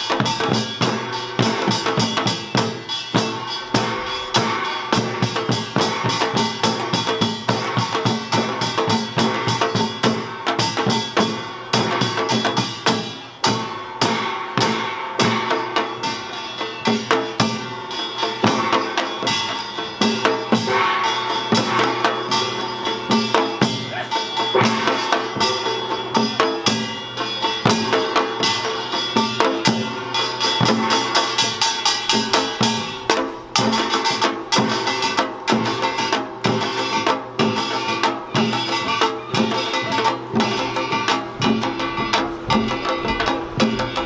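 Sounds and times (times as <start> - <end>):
gongs clanging and ringing: 0.0 - 44.0
hourglass drums and barrel drums beating: 0.0 - 44.0.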